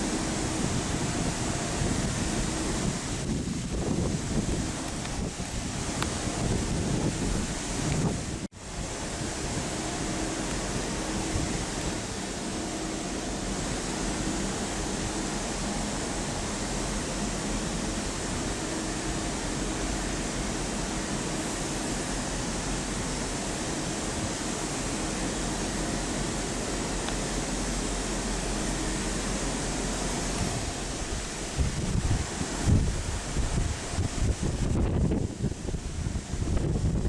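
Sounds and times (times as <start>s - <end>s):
steady rushing noise: 0.0s - 37.0s.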